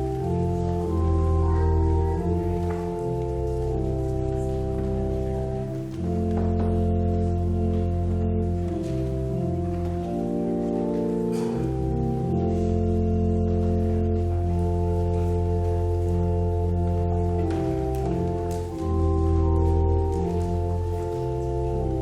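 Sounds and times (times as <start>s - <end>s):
church organ playing chords: 0.0s - 22.0s.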